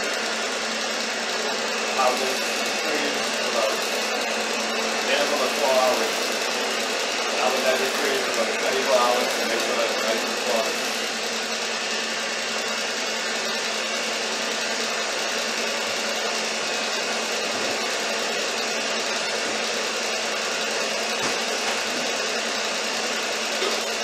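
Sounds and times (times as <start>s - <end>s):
stand mixer running: 0.0s - 24.0s.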